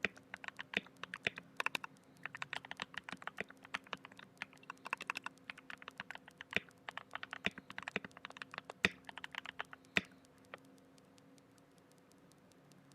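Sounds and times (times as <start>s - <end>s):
mechanical keyboard typing: 0.0s - 10.8s.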